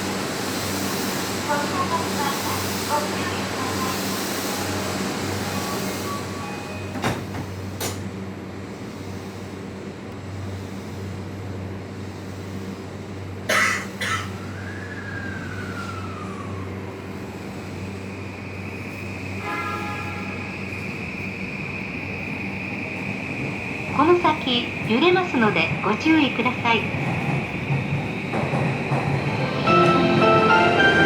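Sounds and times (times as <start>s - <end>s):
train low hum: 0.0s - 31.0s.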